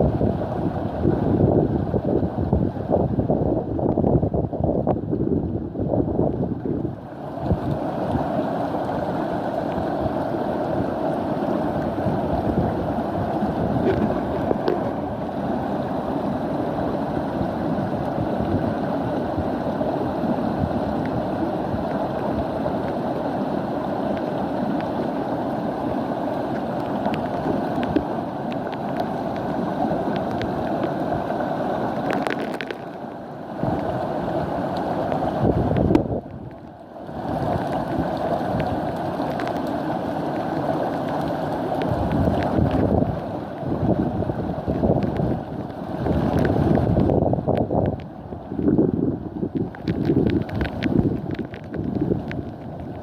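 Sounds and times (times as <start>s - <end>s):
rushing water: 0.0s - 53.0s
storm wind: 0.0s - 53.0s.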